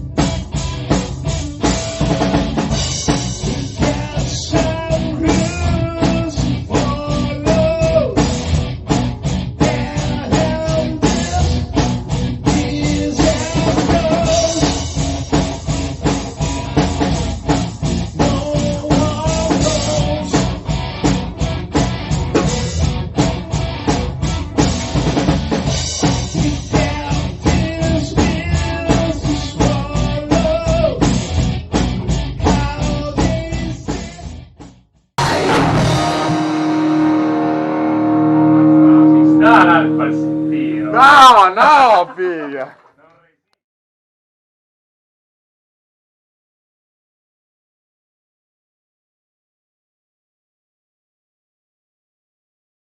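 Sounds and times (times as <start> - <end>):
rock band music: 0.0 - 42.6.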